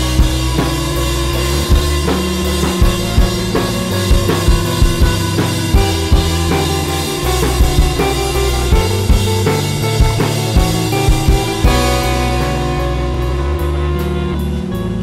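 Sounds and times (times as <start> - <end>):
drum kit beat: 0.0 - 15.0
low sustained bass notes: 0.0 - 15.0.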